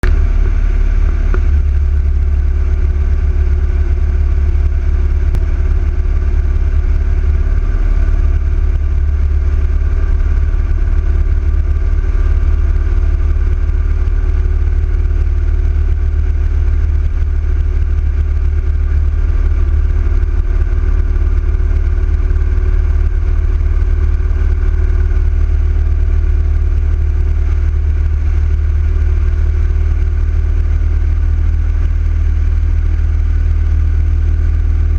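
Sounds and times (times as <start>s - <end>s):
motorcycle engine deep rumble: 0.0s - 34.9s.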